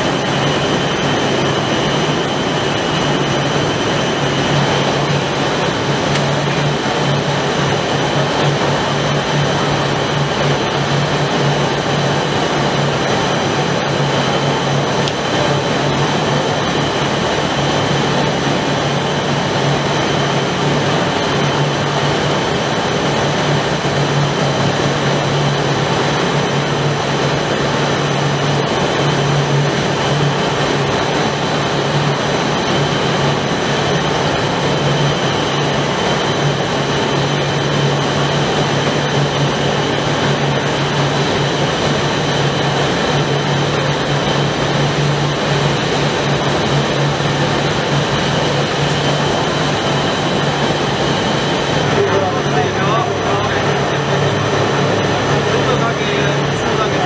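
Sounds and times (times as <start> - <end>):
low machine hum: 0.0 - 57.0
rushing machine noise: 0.0 - 57.0.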